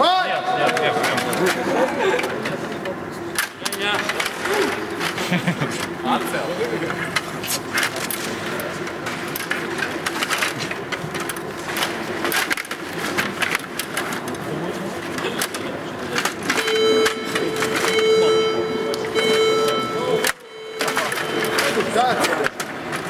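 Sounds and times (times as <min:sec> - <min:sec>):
table hockey rods clattering: 0:00.6 - 0:06.0, 0:06.6 - 0:18.1, 0:18.8 - 0:23.0.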